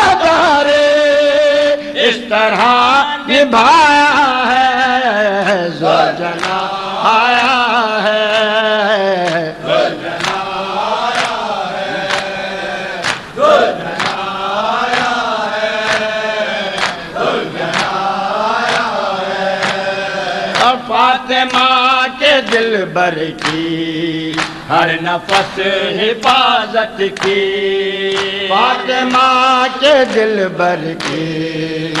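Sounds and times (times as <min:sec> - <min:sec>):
men chanting in unison: 0:00.0 - 0:32.0.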